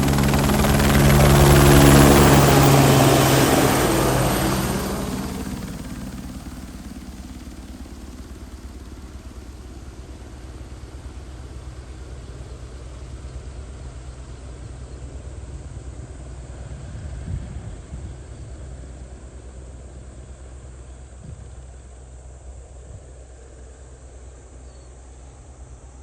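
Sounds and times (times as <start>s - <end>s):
helicopter rotor drone: 0.0s - 26.0s.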